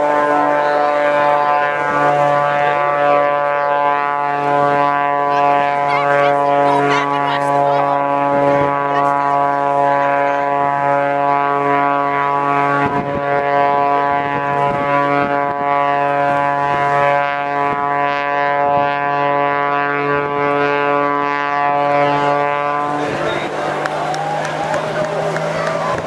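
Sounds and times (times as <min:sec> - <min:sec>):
loud steady drone: 0:00.0 - 0:26.0
wind buffeting microphone: 0:00.0 - 0:26.0.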